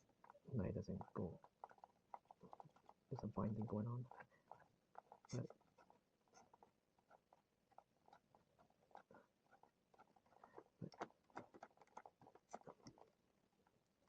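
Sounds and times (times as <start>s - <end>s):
small clicks and taps: 0.0s - 13.1s.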